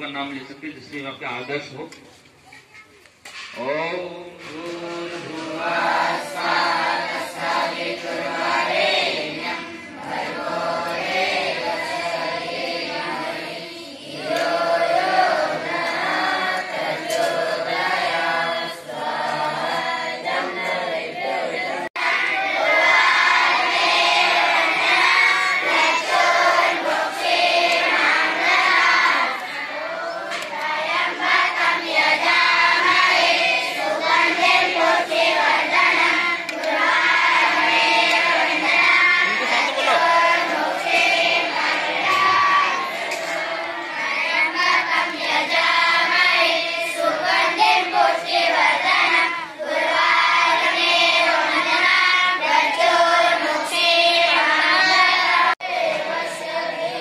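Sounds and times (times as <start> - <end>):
boys chanting a prayer: 0.0 - 57.0.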